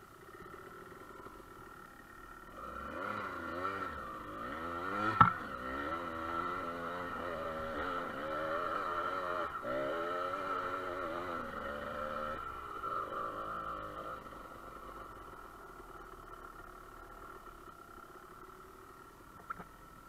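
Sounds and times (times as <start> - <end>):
dirt bike engine revving: 0.2 - 17.8.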